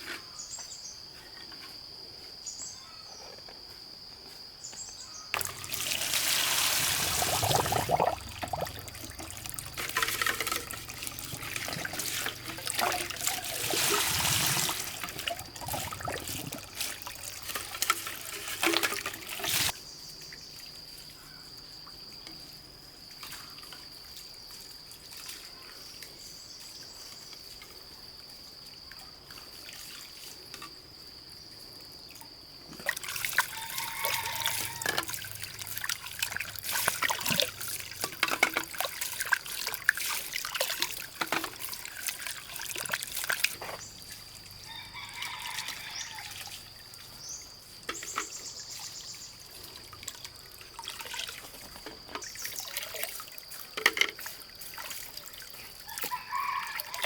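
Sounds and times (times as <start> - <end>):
water trickling and splashing: 5.3 - 22.1, 23.1 - 27.8, 28.8 - 30.5, 32.1 - 57.0.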